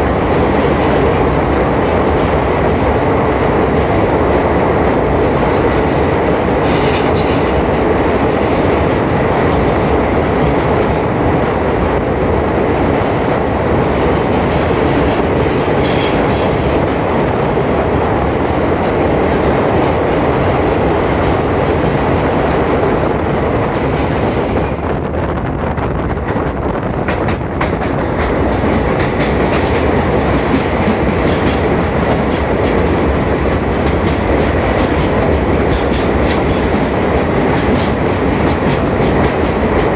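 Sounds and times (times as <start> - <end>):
clickety-clack of rail joints: 0.0 - 39.9
train rumbling on track: 0.0 - 39.9.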